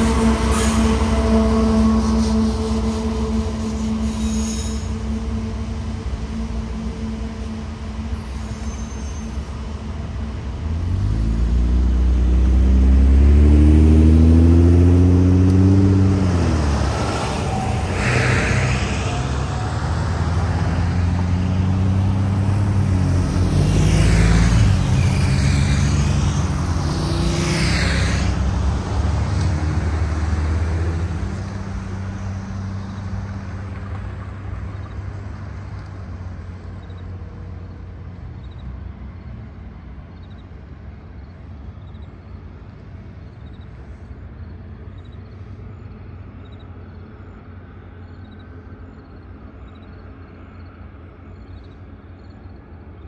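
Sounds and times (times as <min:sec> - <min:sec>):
diesel freight train passing: 0:00.0 - 0:53.0.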